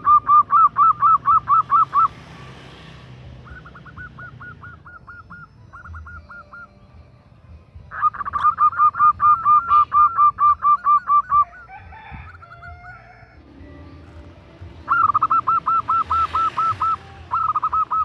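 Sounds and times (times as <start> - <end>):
dove cooing: 0.0 - 2.3, 3.3 - 6.8, 7.9 - 18.0.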